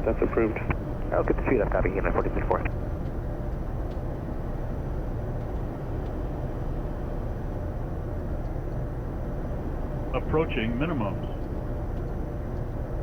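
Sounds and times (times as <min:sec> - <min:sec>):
jet cockpit engine and airflow rumble: 0:00.0 - 0:13.0.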